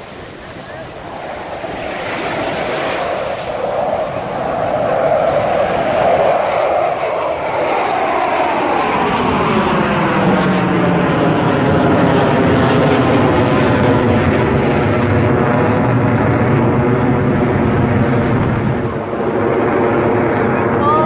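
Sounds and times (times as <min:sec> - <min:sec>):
jet aircraft roaring overhead: 0:00.0 - 0:21.0.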